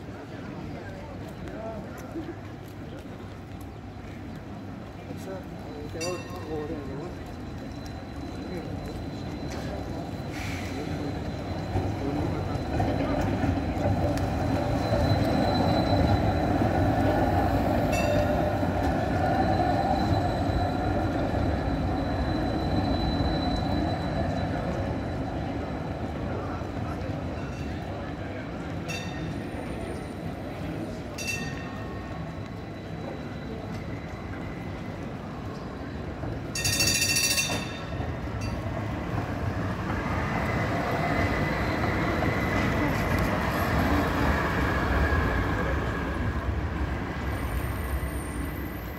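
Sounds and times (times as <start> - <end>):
trams rolling rumble: 0.0 - 48.9.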